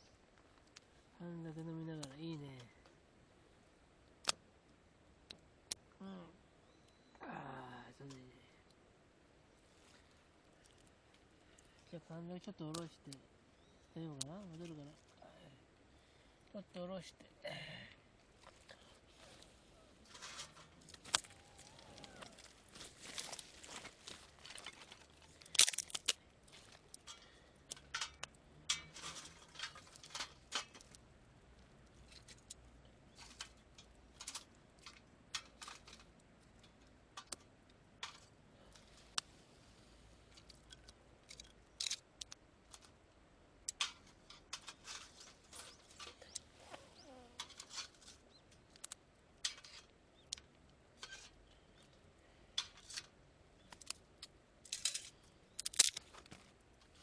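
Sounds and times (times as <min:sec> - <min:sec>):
twigs crackling in stove fire: 0:00.0 - 0:03.0, 0:04.0 - 0:08.8, 0:09.6 - 0:17.2, 0:18.2 - 0:57.0.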